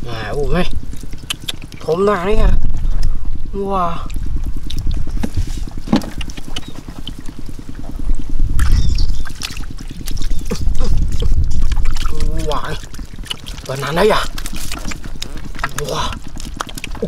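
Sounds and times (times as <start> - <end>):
water splashing in shallow mud: 0.0 - 2.6, 4.0 - 17.0
steady low-pitched noise: 0.0 - 17.0.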